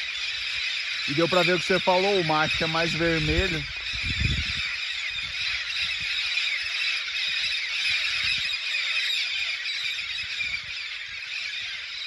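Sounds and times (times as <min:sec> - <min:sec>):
parrot flock squealing calls: 0:00.0 - 0:12.0.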